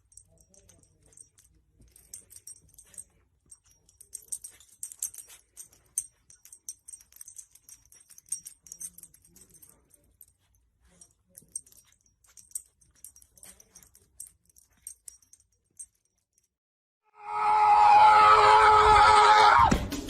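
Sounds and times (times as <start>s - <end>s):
dog collar tags jingling: 0.0s - 16.6s.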